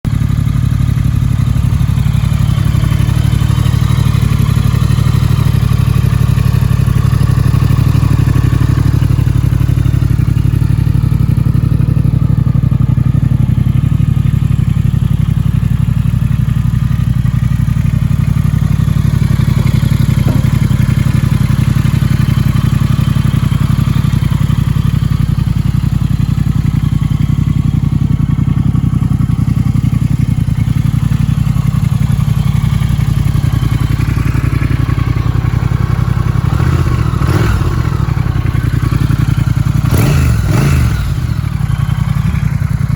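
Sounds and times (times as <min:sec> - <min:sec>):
motorcycle engine idling: 0:00.1 - 0:42.9.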